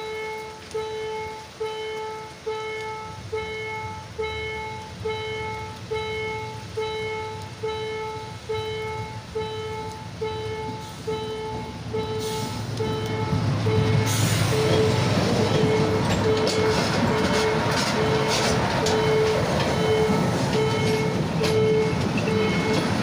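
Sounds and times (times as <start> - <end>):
level crossing bell ringing: 0.0 - 22.9
train engine rumble: 0.0 - 23.0.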